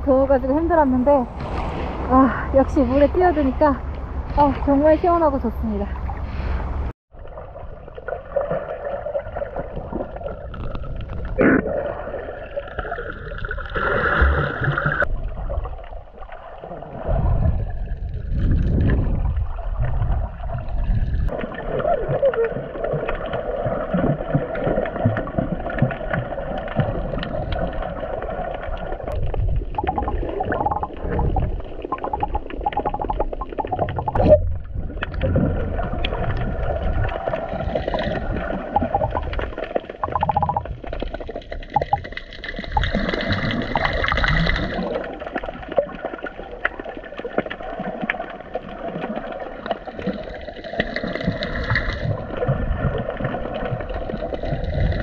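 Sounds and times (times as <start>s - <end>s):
underwater water movement and gurgling: 0.0s - 55.0s.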